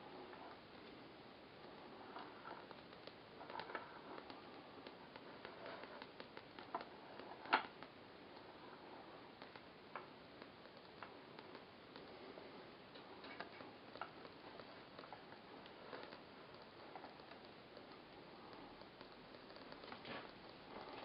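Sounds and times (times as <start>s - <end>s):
low hiss: 0.0s - 21.0s
light ticks and clicks: 1.6s - 21.0s.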